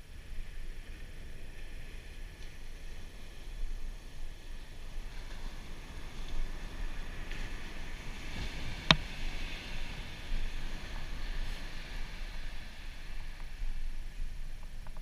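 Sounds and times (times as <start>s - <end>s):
surf washing onto beach: 0.1s - 15.0s.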